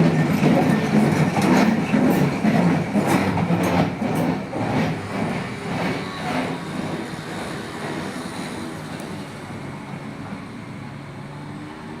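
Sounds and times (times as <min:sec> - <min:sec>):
tram wheel clack: 0:00.0 - 0:10.6
street hum: 0:00.0 - 0:12.0
tram running noise: 0:00.0 - 0:12.0.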